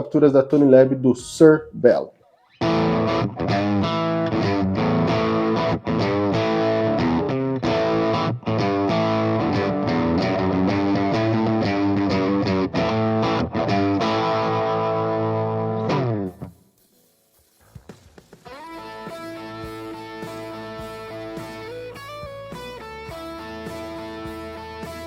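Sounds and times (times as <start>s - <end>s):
electric guitar chords strummed: 2.4s - 16.5s, 18.5s - 25.0s.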